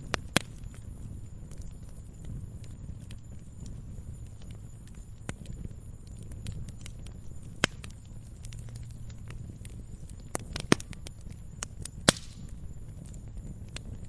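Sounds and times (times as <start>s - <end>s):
campfire crackling: 0.0s - 14.0s
fire popping and snapping: 0.0s - 14.0s
low rumble of flames: 0.0s - 14.0s.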